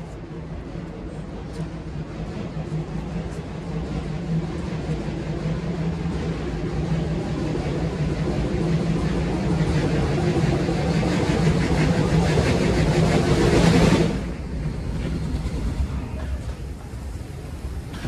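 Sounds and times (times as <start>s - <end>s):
train running with rhythmic beat: 0.0s - 18.0s.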